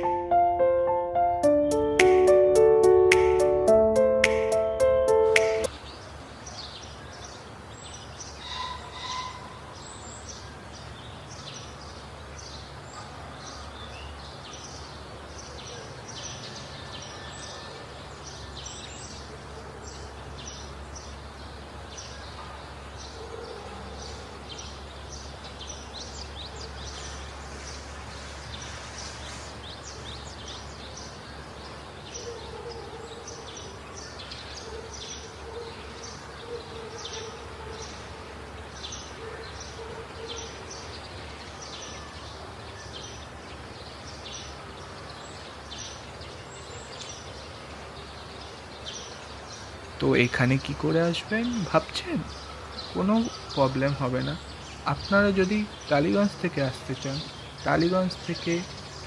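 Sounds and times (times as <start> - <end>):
small birds chirping: 9.7 - 59.0.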